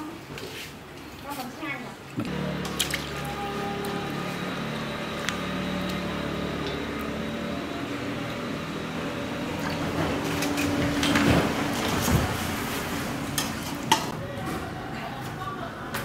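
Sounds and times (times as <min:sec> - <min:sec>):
low mechanical hum: 0:02.2 - 0:16.0.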